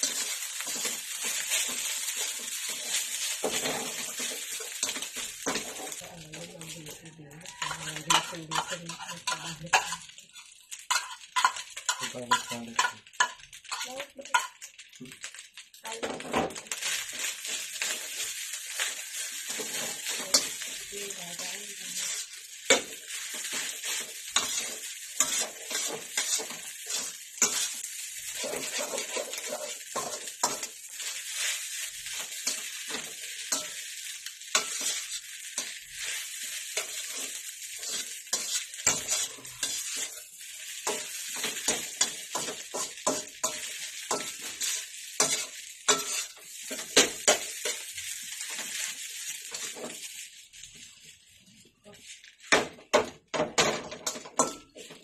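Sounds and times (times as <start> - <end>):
spatula scraping a pan: 0.0 - 14.7, 16.5 - 53.1, 53.9 - 55.0
rice sizzling in a pan: 0.0 - 55.0.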